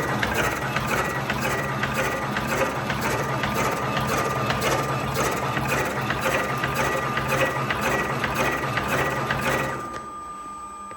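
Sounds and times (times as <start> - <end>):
machine motor hum: 0.0 - 10.9.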